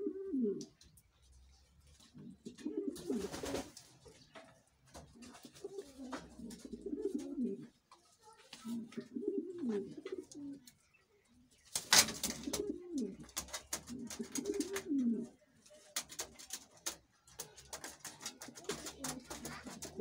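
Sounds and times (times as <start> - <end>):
pigeons cooing: 0.0 - 0.8, 2.1 - 4.2, 5.0 - 7.8, 8.8 - 11.0, 11.8 - 20.0
birds pecking at grain: 0.6 - 20.0.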